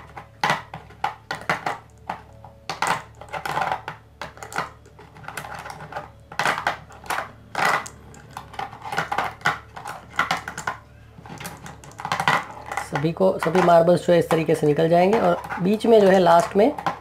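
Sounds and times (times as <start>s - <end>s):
marbles clicking on plastic board: 0.0s - 17.0s.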